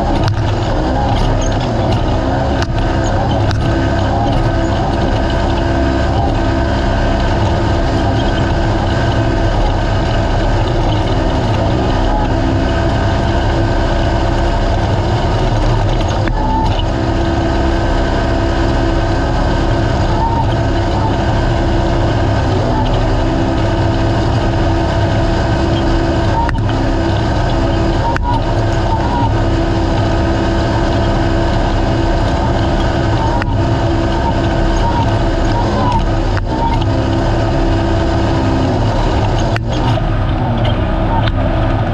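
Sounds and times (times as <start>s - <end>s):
loud engine running: 0.0s - 41.9s
rumble of vehicle over terrain: 0.0s - 41.9s.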